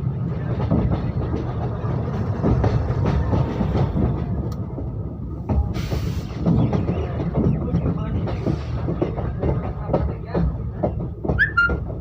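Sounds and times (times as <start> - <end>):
train clattering: 0.0 - 12.0
train wheels rumbling on track: 0.0 - 12.0.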